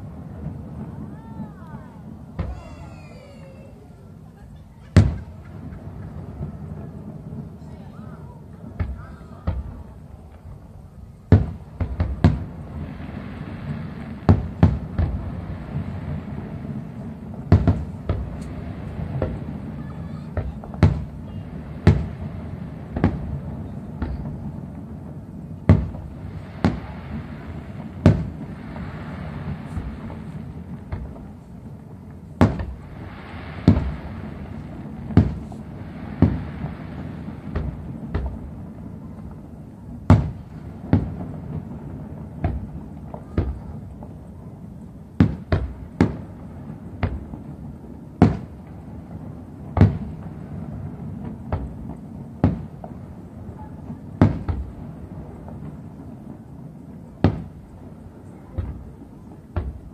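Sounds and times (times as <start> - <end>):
crackling hiss of firework stars: 0.0 - 59.9.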